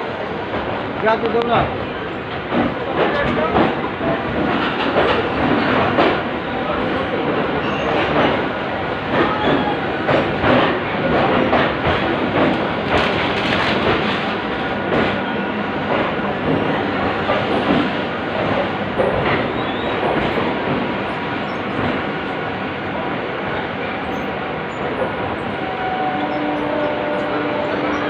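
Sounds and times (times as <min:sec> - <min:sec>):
train wheels clattering on rails: 0:00.5 - 0:23.1.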